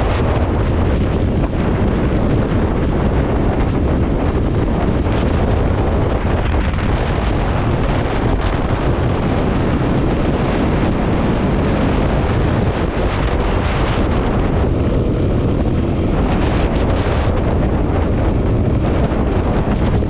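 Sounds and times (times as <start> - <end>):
loud rushing noise: 0.0 - 20.0
wind buffeting microphone: 0.0 - 20.0.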